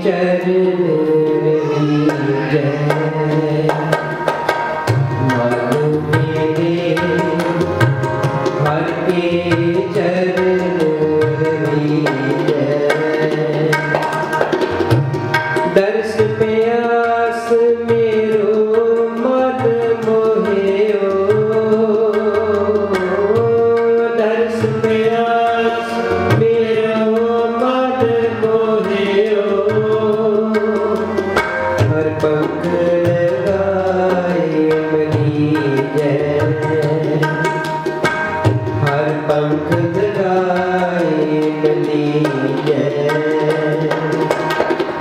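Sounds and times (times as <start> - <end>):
person singing: 0.0 - 4.3, 5.2 - 7.8, 8.6 - 14.0, 15.6 - 37.6, 38.8 - 44.3
harmonium chords: 0.0 - 45.0
tabla strokes: 0.9 - 45.0.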